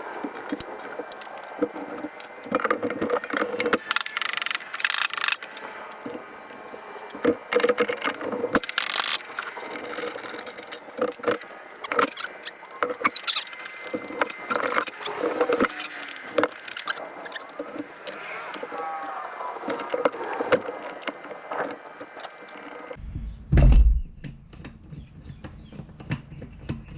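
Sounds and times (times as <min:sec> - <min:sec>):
metal tools and parts clinking: 0:00.0 - 0:23.0.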